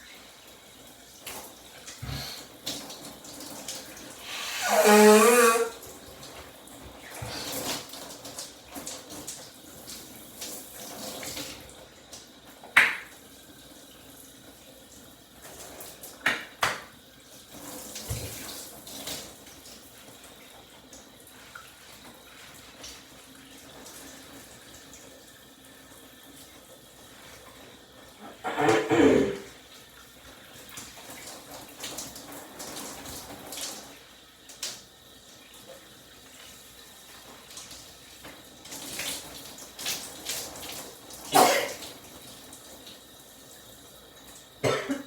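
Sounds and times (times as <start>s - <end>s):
shower water running: 0.0s - 45.0s.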